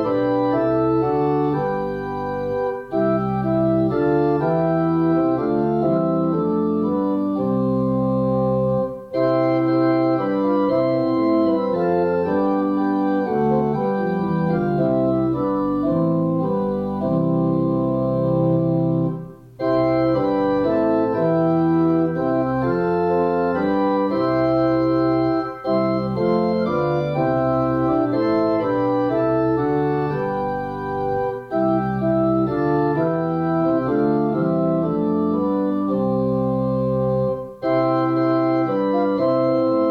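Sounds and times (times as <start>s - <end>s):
church organ playing a hymn: 0.0s - 39.9s.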